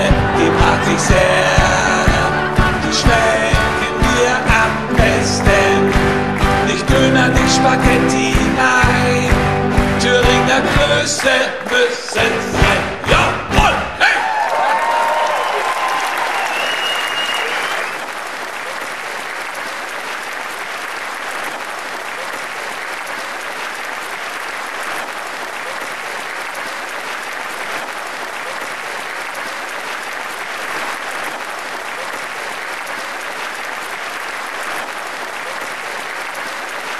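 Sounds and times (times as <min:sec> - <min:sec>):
audience applauding: 0:00.0 - 0:36.9.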